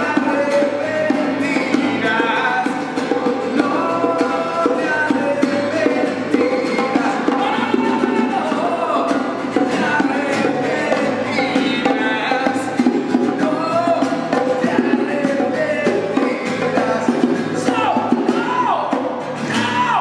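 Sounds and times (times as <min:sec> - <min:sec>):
bongos tapped by hand: 0:00.0 - 0:19.9
acoustic guitars strummed: 0:00.0 - 0:20.0
man singing: 0:00.0 - 0:20.0.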